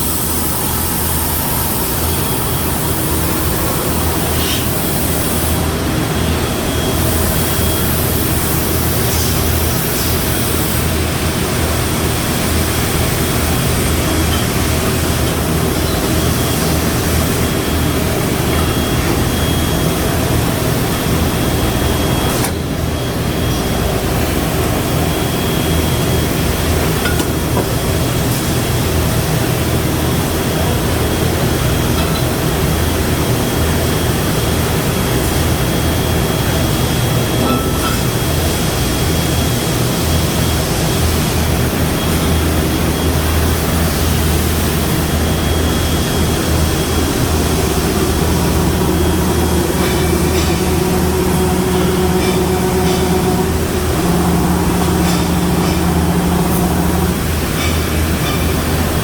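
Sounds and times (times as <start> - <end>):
machinery low hum: 0.0 - 59.0
thin high machine whine: 0.0 - 59.0.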